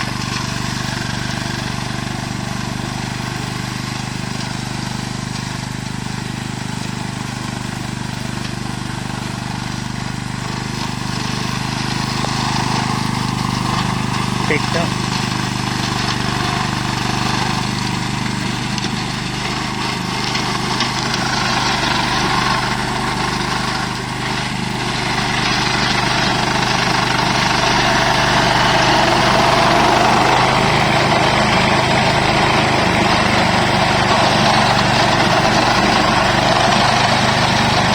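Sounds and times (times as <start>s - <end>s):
lawn mower engine running: 0.0s - 37.9s.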